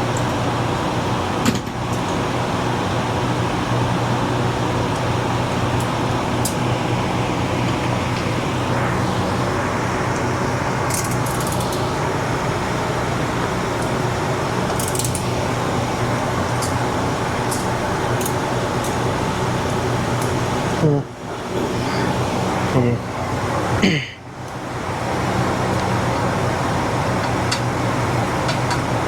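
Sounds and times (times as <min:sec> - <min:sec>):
fan hum: 0:00.0 - 0:29.0.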